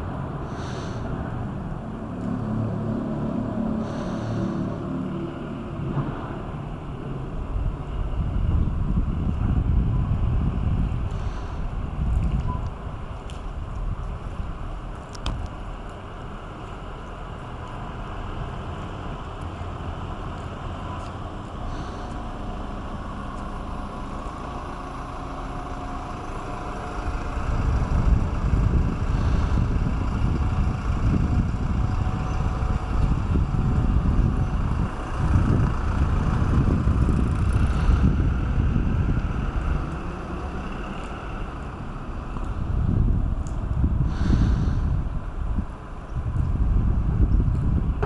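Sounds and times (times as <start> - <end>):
low outdoor rumble: 0.0 - 48.0
wind buffeting microphone: 0.0 - 48.0.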